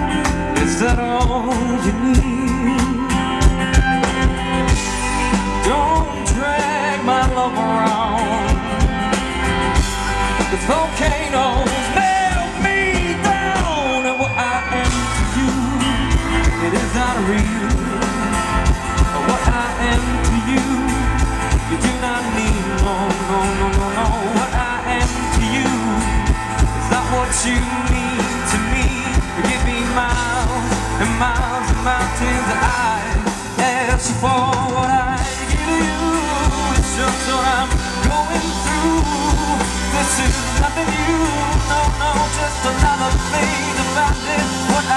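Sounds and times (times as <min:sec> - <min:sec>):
band accompaniment: 0:00.0 - 0:44.9
man singing: 0:00.0 - 0:44.9
strummed acoustic guitar: 0:00.0 - 0:44.9.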